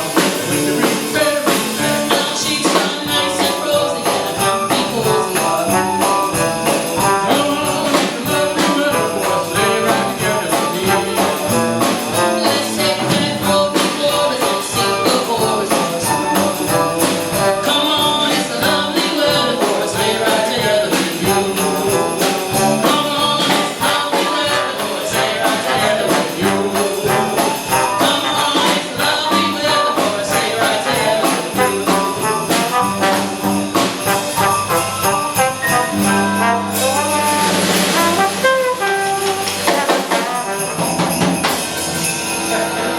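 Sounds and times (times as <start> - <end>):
jazz band playing: 0.0 - 42.9
sleigh bells jingling: 0.0 - 42.9.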